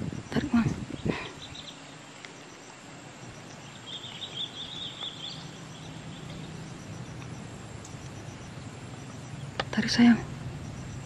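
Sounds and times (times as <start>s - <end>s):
faint low steady hum: 0.0s - 11.0s
bird chirping trill: 0.9s - 11.0s.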